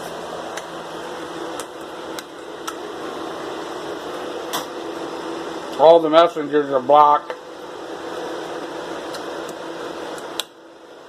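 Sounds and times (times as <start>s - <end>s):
mechanical hum with low drone: 0.0s - 11.0s.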